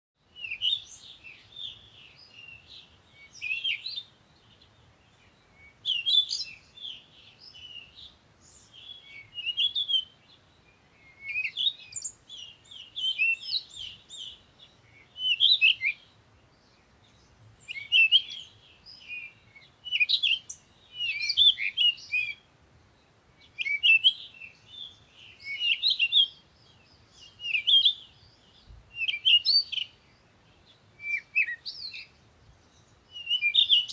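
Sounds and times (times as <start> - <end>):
songbirds chirping: 0.2 - 33.9.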